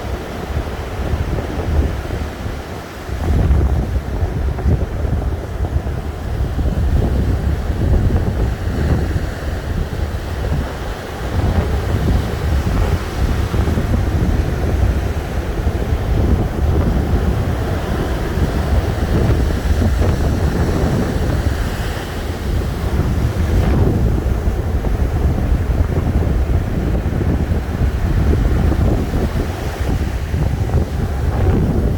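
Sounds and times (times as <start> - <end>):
ocean surf washing ashore: 0.0 - 31.9
wind rumbling on microphone: 0.0 - 31.9.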